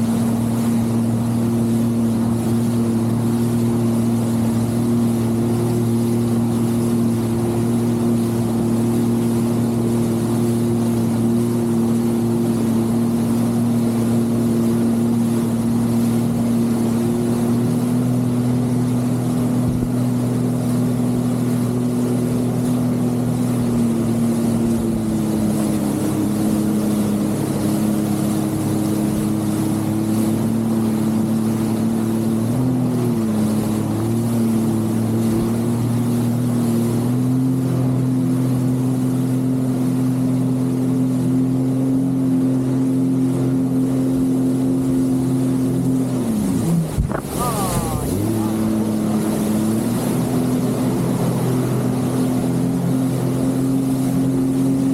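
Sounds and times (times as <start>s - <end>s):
jet ski engine running: 0.0s - 54.9s.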